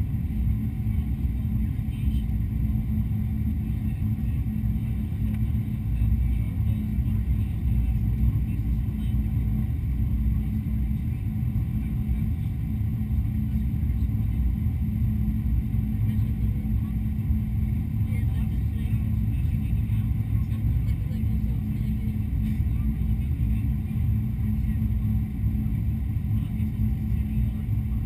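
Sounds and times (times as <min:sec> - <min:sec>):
airliner cabin engine rumble: 0:00.0 - 0:28.0
constant low hum: 0:00.0 - 0:28.0.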